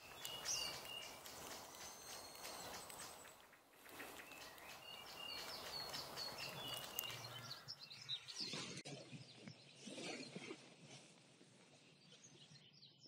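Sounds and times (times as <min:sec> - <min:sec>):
songbirds chirping: 0:00.0 - 0:10.7, 0:11.5 - 0:13.0.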